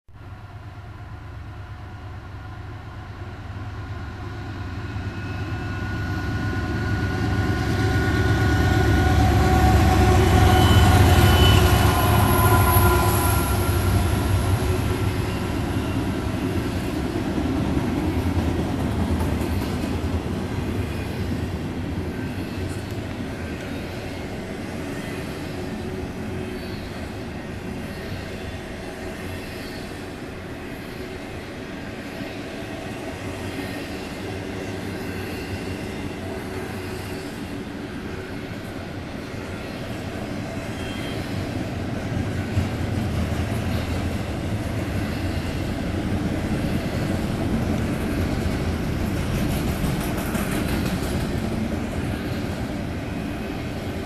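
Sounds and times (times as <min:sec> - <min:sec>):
freight train rumbling by: 0:00.1 - 0:54.0
diesel locomotive engines passing: 0:00.2 - 0:54.0.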